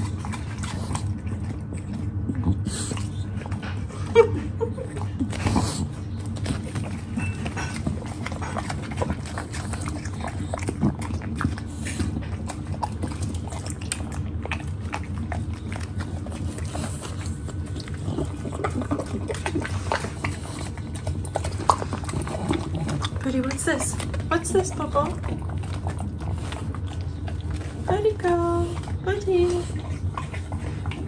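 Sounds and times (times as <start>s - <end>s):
dog chewing apple: 0.0s - 31.0s.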